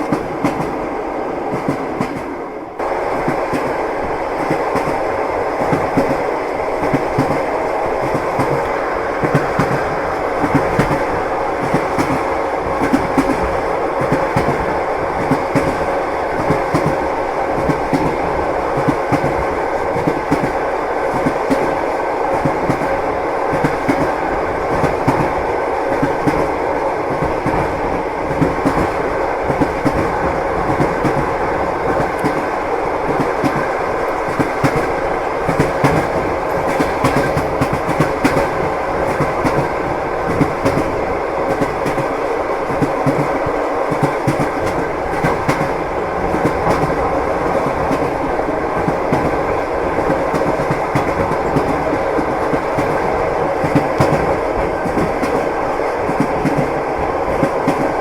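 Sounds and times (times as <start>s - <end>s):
train wheels clattering over rail joints: 6.8s - 58.0s.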